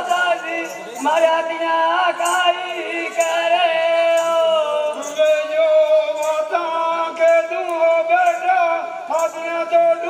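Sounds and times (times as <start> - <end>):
folk singing with wavering notes: 0.0 - 10.0.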